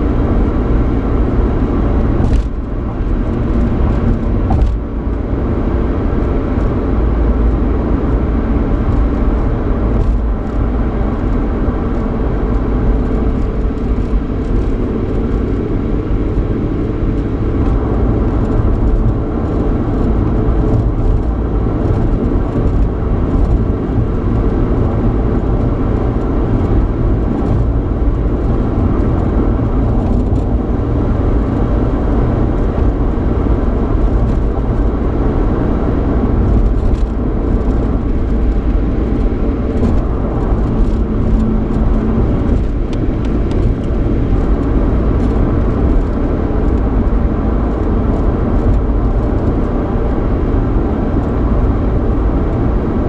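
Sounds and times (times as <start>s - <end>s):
car engine hum: 0.0s - 53.0s
road noise: 0.0s - 53.0s
wind noise: 0.0s - 53.0s.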